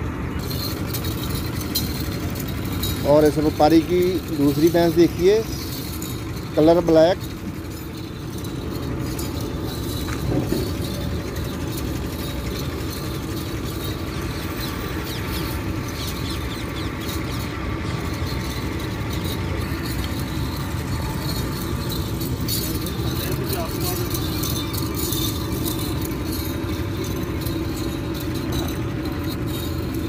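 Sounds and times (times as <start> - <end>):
faint continuous hum: 0.0 - 30.0
outdoor background rumble: 0.0 - 30.0.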